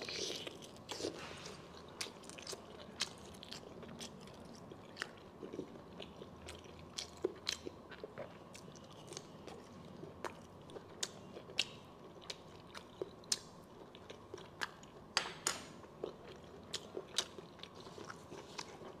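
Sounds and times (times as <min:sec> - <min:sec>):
person chewing wetly: 0:00.0 - 0:15.1, 0:15.9 - 0:19.0.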